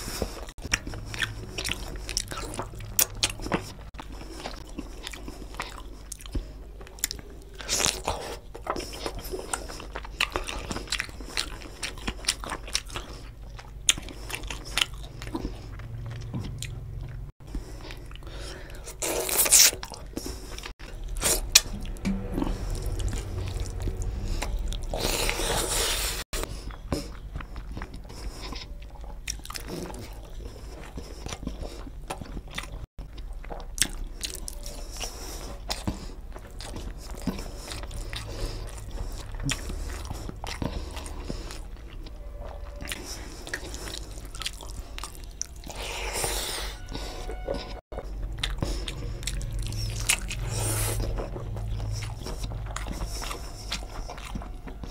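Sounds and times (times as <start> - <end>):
man chewing food: 0.0 - 54.9.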